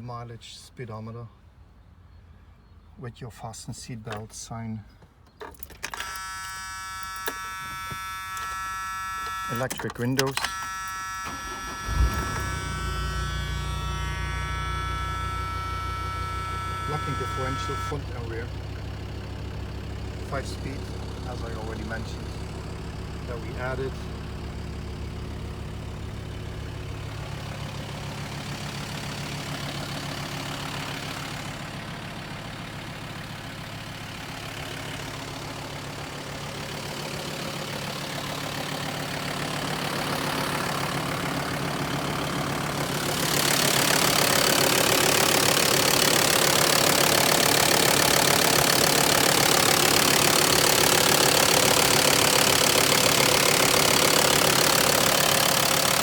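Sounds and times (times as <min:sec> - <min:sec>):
diesel engine idling with clatter: 0:03.3 - 0:56.0.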